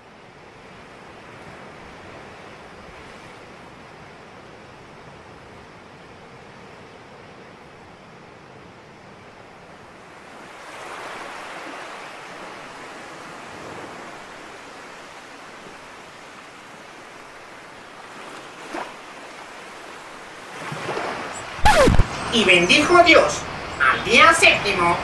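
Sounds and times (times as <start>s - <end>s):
waves washing on shore: 0.0s - 8.0s, 8.9s - 25.0s.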